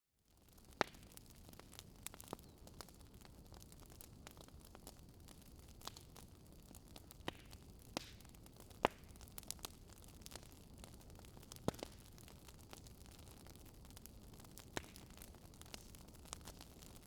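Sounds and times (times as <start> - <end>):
wood fire crackling: 0.3 - 17.0.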